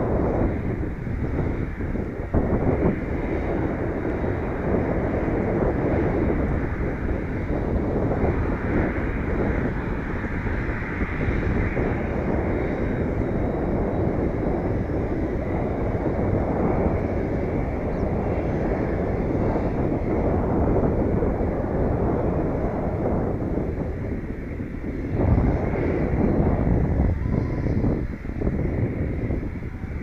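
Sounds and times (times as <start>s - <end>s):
turboprop airliner taxiing: 0.0s - 30.0s
wind buffeting microphone: 0.0s - 30.0s.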